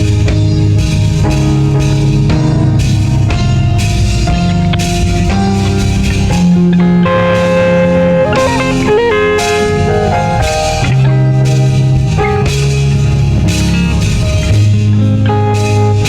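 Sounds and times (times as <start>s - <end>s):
instrumental band music: 0.0s - 16.0s
lead guitar line: 0.0s - 16.0s.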